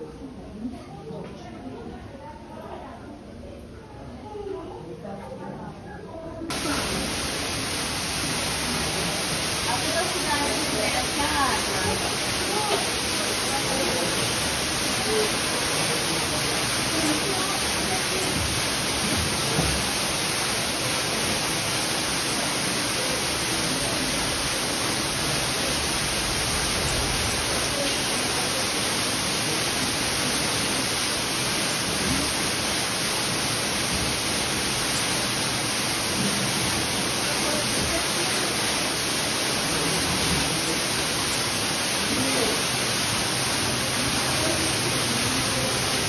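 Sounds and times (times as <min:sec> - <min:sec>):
waterfall rushing and splashing: 0:06.5 - 0:46.0.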